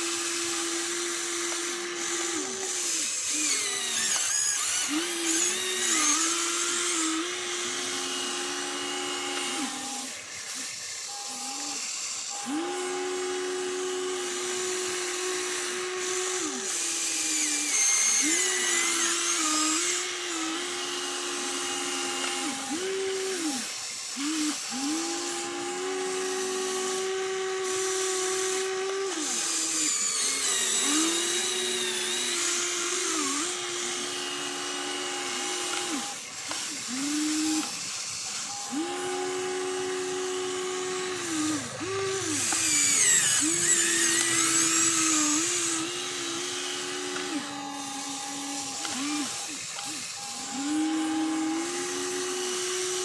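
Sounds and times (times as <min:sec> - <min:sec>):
electric motors whining: 0:00.0 - 0:53.0.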